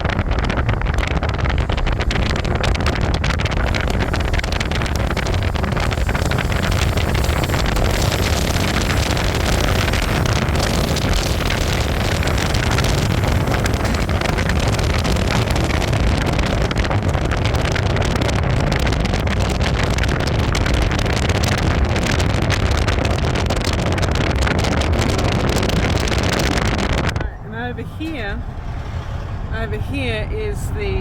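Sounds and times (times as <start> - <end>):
wind and road noise: 0.0 - 31.0
wind buffeting microphone: 0.0 - 31.0.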